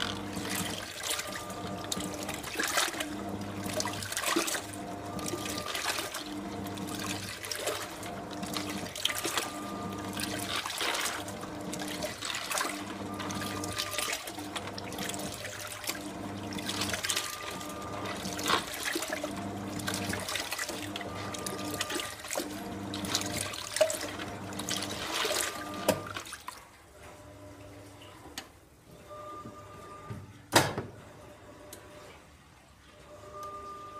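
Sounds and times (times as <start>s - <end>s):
washing machine churning water: 0.0s - 28.8s.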